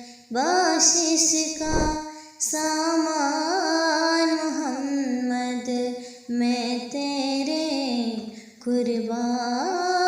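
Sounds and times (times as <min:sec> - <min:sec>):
person singing devotional song: 0:00.0 - 0:10.0.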